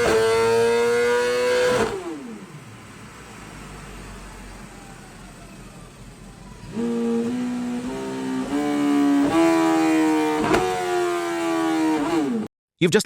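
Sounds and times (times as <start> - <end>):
motorcycle engine revving: 0.0 - 3.0, 4.1 - 12.5.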